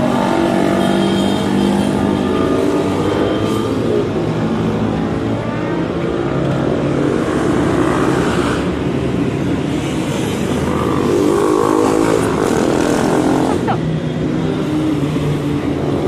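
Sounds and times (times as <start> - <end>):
passing car traffic: 0.0 - 16.0.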